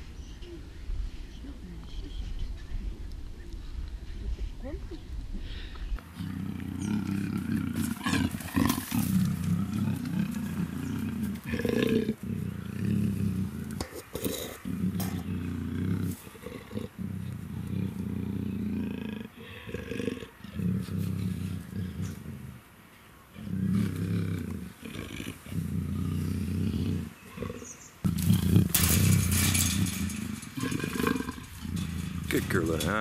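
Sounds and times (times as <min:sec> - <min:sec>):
leopard moaning growls: 0:06.0 - 0:22.7, 0:23.3 - 0:33.0.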